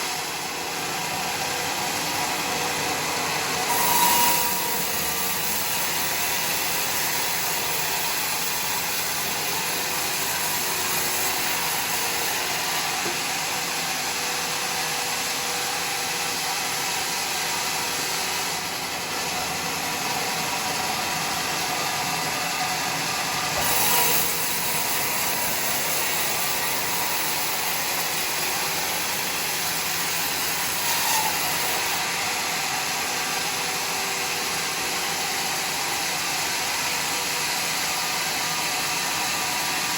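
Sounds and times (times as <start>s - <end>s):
sawmill machine running: 0.0s - 39.9s.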